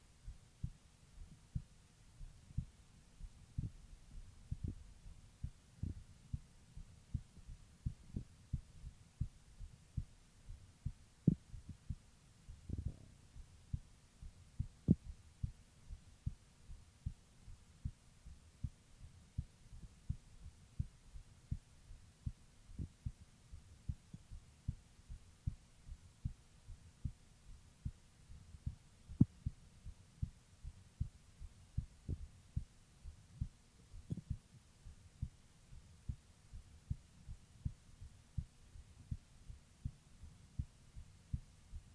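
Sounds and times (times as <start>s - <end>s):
heartbeat thumps: 0.2s - 41.9s.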